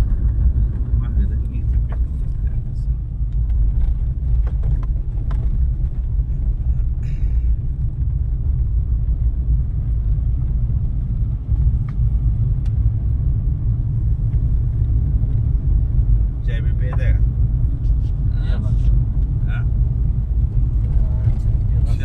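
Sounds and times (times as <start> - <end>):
car cabin rumble: 0.0 - 22.0.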